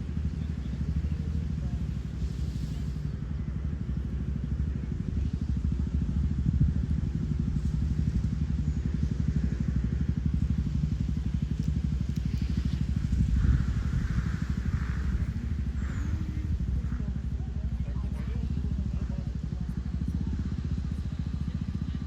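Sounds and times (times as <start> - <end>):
wind buffeting microphone: 0.8 - 22.0.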